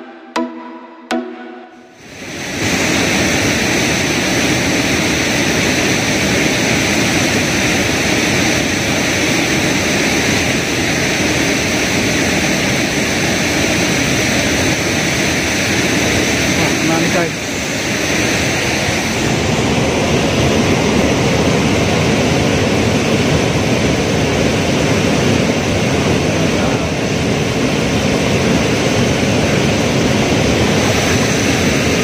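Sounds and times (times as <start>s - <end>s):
fast-flowing river rushing: 2.0s - 32.0s.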